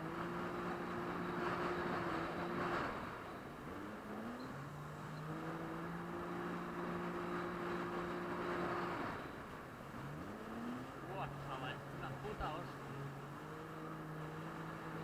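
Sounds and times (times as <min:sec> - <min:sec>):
jet ski engine running: 0:00.0 - 0:15.0.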